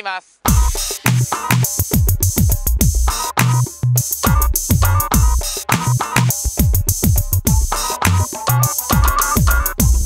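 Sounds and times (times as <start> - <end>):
kick drums dropping in pitch: 0.5 - 10.0
synth chords: 0.5 - 10.0
ticking hi-hat: 0.5 - 10.0.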